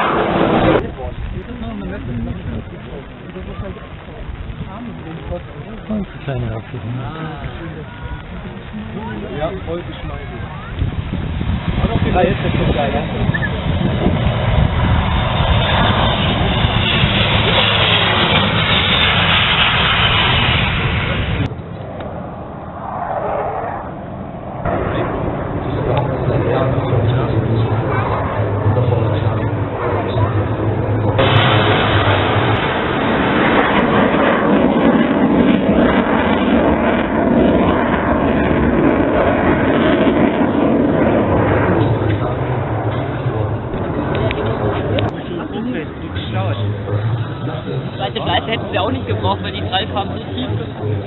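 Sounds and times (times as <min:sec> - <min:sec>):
turboprop aircraft engines: 0:00.0 - 0:51.0.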